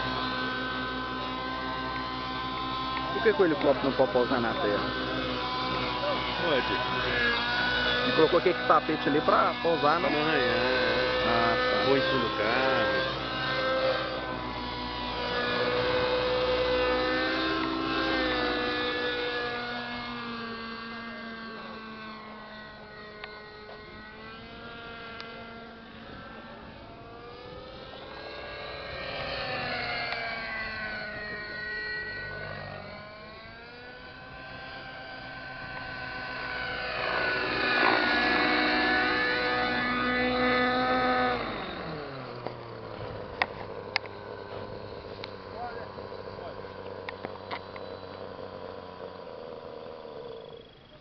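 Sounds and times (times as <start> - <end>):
model helicopter rotor whine: 0.0 - 51.0.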